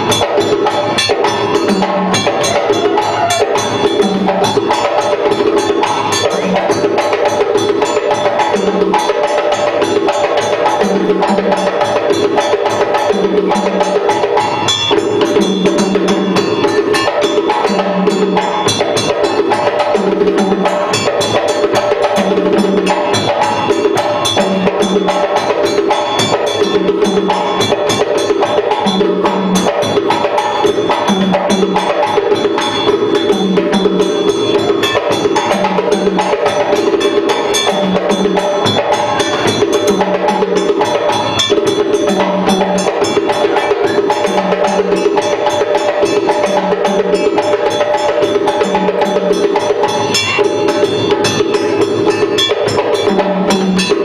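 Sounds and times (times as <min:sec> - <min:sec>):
drum ensemble playing: 0:00.0 - 0:54.0.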